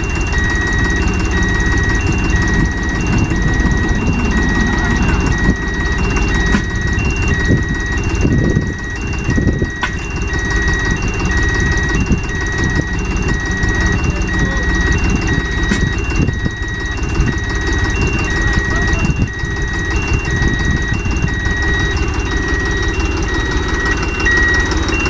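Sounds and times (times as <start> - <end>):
heavy vehicle engine running: 0.0 - 25.0
reversing alarm beeping: 0.0 - 25.0.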